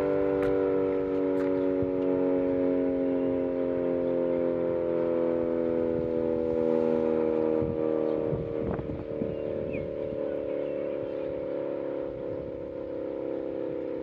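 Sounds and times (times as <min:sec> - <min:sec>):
warning siren: 0:00.0 - 0:14.0.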